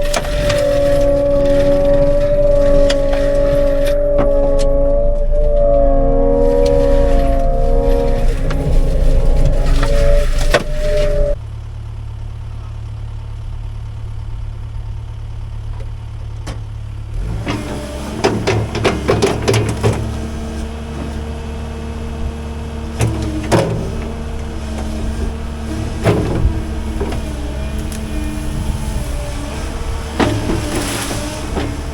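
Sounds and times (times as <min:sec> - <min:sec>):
heavy machine engine running: 0:00.0 - 0:31.9.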